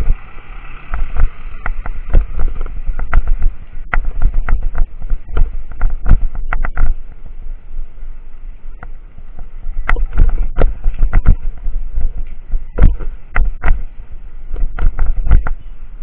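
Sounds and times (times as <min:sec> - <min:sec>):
bicycle knocking and rattling: 0:00.0 - 0:16.0
wind buffeting microphone: 0:00.0 - 0:16.0.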